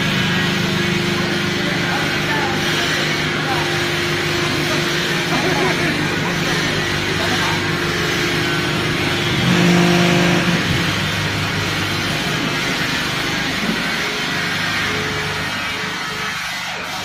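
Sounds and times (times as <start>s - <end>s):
hydraulic press humming: 0.0s - 17.0s.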